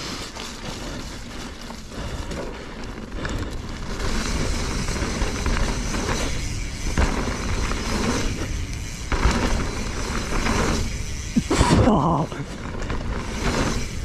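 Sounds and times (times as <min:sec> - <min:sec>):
bike clicks and rattles: 0:00.0 - 0:14.0
tyres rumbling on dirt: 0:00.0 - 0:14.0.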